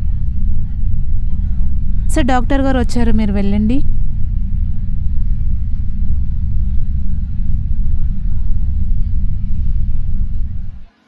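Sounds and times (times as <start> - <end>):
deep low rumble drone: 0.0 - 11.0.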